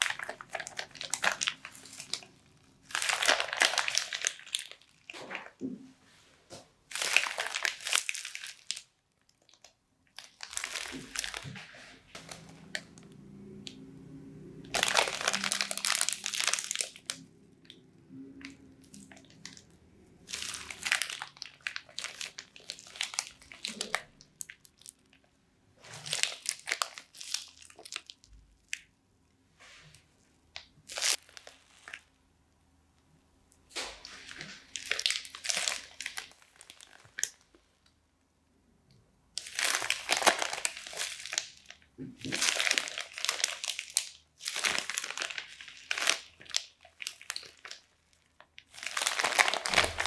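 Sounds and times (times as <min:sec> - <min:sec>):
plastic bag crinkling: 0:00.0 - 0:05.6, 0:06.9 - 0:12.9, 0:14.7 - 0:17.8, 0:18.4 - 0:25.2, 0:25.8 - 0:28.8, 0:30.6 - 0:32.1, 0:34.0 - 0:37.6, 0:39.4 - 0:50.0
wet slime crackling: 0:00.0 - 0:05.6, 0:06.8 - 0:13.8, 0:14.6 - 0:29.0, 0:30.5 - 0:32.4, 0:33.5 - 0:38.0, 0:39.3 - 0:50.0.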